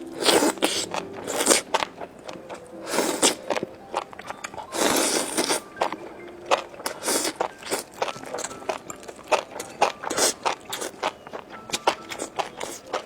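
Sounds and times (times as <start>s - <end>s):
chewing crunchy fried food: 0.0s - 13.0s.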